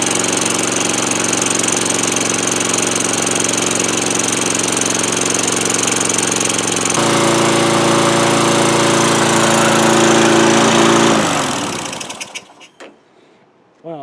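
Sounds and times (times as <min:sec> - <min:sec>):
lawn mower engine running: 0:00.0 - 0:12.8.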